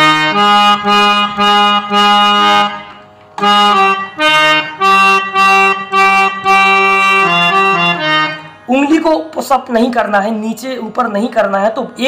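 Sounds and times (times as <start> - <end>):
harmonium melody: 0.0 - 12.0.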